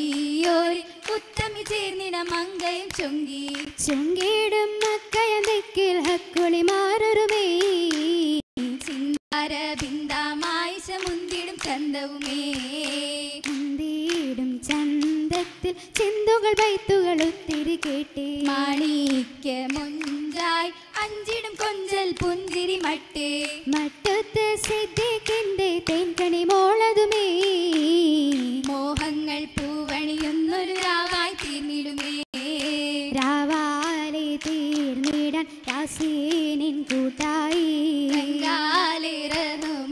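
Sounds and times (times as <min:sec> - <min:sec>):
sharp hand-claps: 0:00.0 - 0:39.9
women singing in unison: 0:00.0 - 0:39.9.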